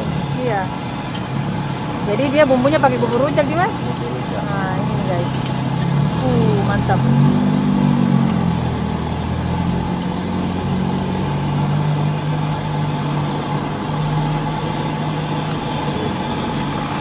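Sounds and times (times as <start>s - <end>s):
dough sizzling in hot oil: 0.0s - 17.0s
engine idling: 0.0s - 17.0s.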